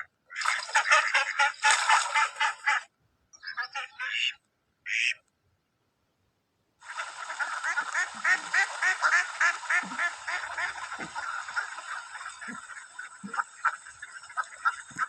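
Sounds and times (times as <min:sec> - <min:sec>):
ducks quacking: 0:00.0 - 0:05.2, 0:06.8 - 0:15.0.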